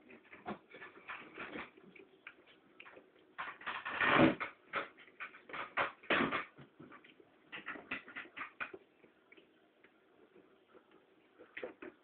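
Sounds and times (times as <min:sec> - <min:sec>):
eating smacks and scrapes: 0:00.0 - 0:12.0.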